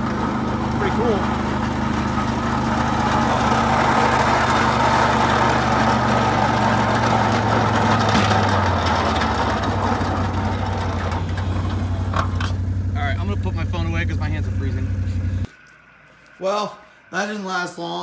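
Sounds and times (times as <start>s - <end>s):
atv engine running: 0.0s - 15.5s.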